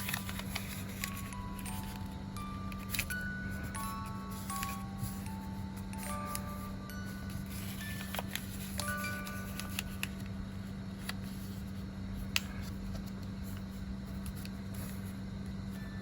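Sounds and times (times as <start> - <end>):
paper being folded: 0.0 - 15.1
faint music notes: 0.0 - 16.0
steady low hum: 0.0 - 16.0.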